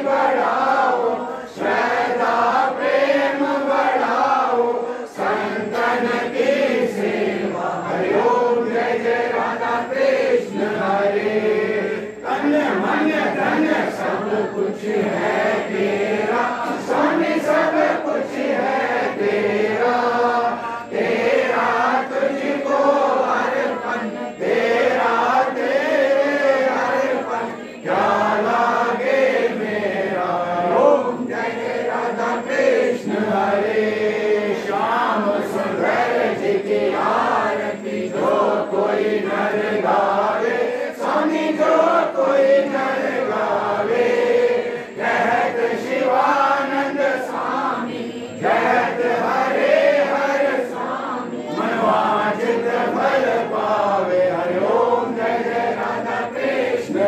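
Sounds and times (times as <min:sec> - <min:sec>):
group chanting a hymn: 0:00.0 - 0:57.0.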